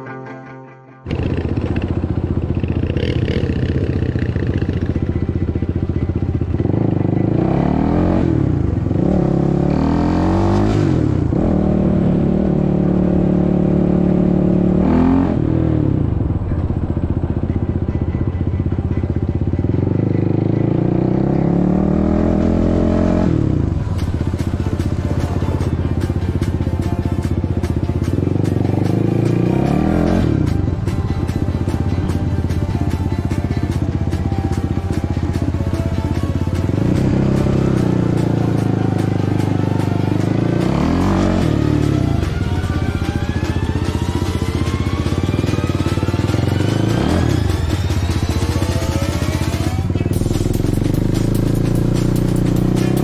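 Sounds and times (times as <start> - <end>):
quad engine revving: 1.1 - 17.6, 18.8 - 53.0.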